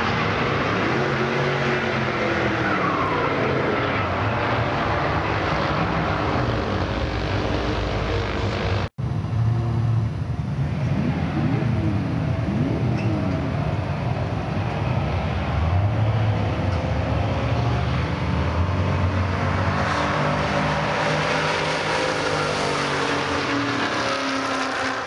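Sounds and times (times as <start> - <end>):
engines accelerating through gears: 0.0 - 25.0.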